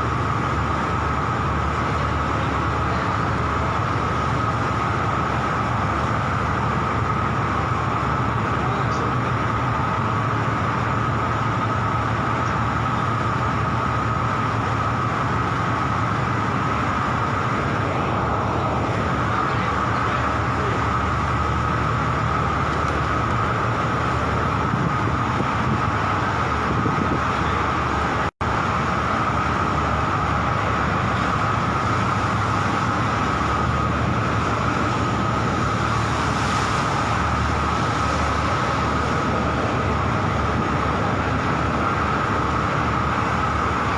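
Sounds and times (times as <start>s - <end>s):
constant engine whine: 0.0s - 43.9s
ship engine drone: 0.0s - 43.9s.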